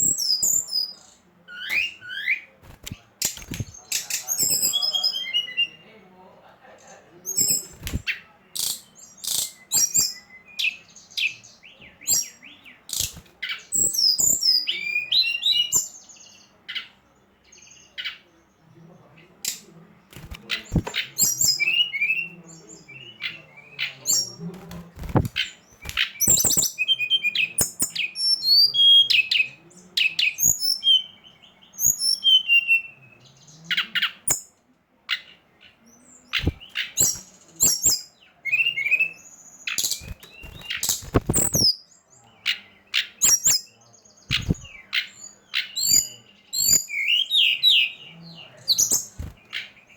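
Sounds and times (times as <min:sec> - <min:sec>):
songbird chirping and trilling: 0:00.0 - 0:49.9.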